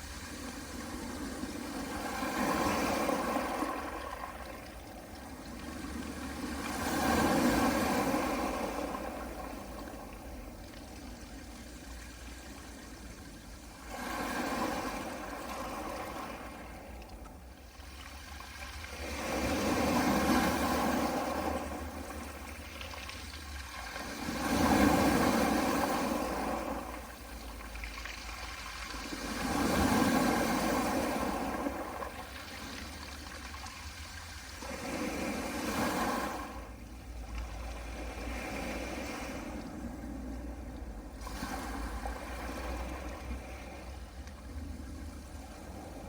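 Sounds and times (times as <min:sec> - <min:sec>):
waves washing over pebble beach: 0:00.0 - 0:11.1, 0:13.0 - 0:17.0, 0:17.8 - 0:36.8, 0:40.9 - 0:43.8.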